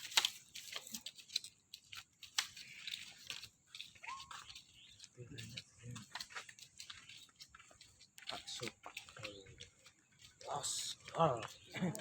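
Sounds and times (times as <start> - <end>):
rustling and crackling: 0.0 - 12.0.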